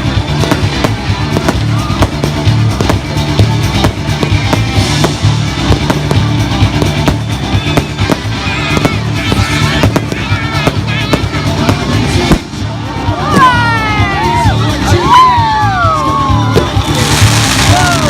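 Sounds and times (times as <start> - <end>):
fireworks banging and crackling: 0.0 - 13.8, 16.2 - 18.0
music playing: 0.0 - 18.0.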